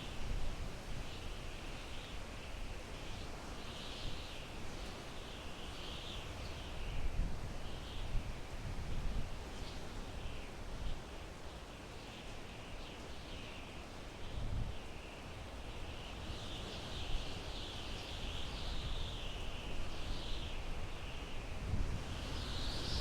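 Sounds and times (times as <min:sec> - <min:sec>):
wind through pine trees: 0:00.0 - 0:23.0.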